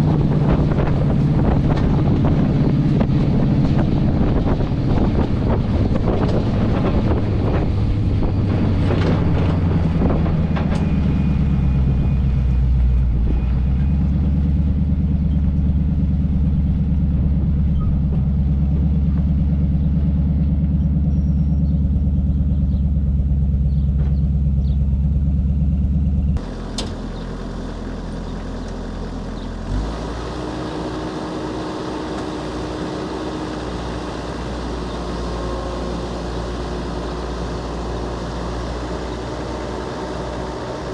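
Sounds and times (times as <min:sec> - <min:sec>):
engine running through exhaust: 0:00.0 - 0:40.9
quiet engine rumble: 0:00.0 - 0:40.9.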